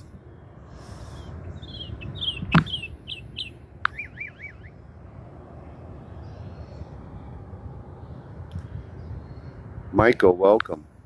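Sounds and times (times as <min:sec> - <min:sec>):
small birds chirping: 0:00.0 - 0:05.0, 0:05.6 - 0:09.8
low outdoor rumble: 0:00.0 - 0:11.0.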